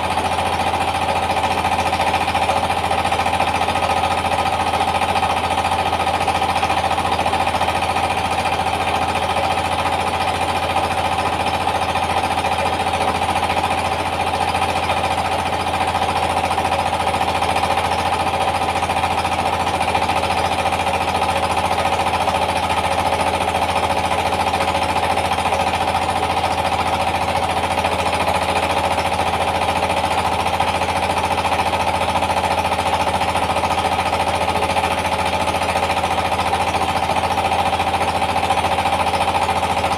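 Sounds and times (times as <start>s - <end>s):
diesel engine pounding: 0.0s - 39.9s
rice milling machine tone: 0.0s - 39.9s.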